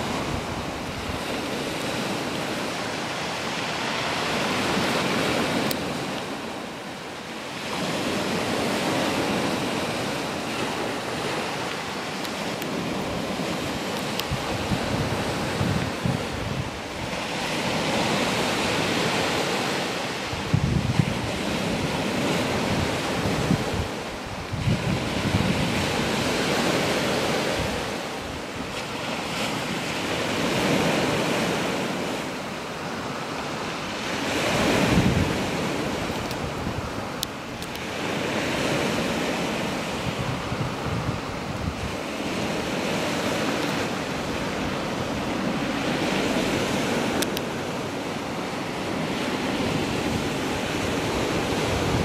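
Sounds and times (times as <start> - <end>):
wind buffeting microphone: 0.0 - 6.8, 7.5 - 52.0
surf on shingle beach: 0.0 - 52.0.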